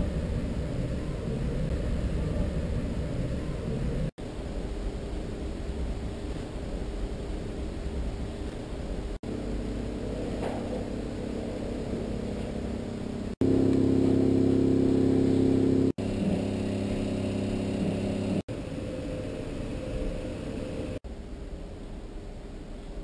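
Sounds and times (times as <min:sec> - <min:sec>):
low droning hum of held tones: 0:00.0 - 0:23.0.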